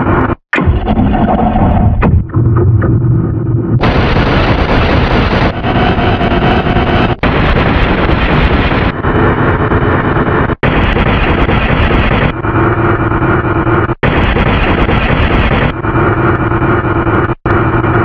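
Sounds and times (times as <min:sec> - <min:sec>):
distorted noisy audio: 0:00.0 - 0:18.0.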